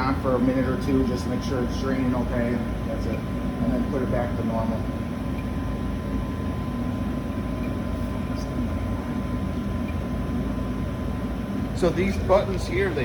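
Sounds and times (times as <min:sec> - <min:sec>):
furnace blower rumble: 0:00.0 - 0:13.0
thin steady whine: 0:00.0 - 0:13.0.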